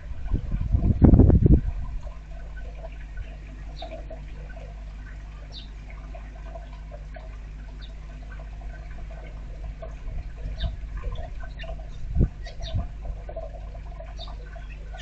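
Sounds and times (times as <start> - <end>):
rain and dripping water: 0.0 - 15.0.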